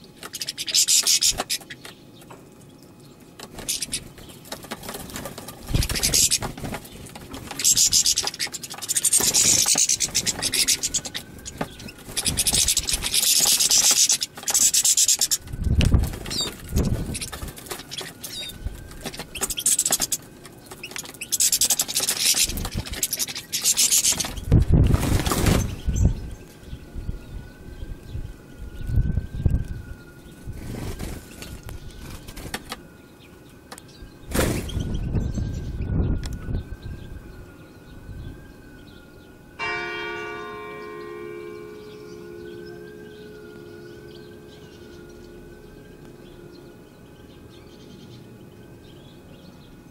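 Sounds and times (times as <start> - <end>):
birds twittering: 0.0 - 49.9
faint wavering whine: 2.5 - 49.9.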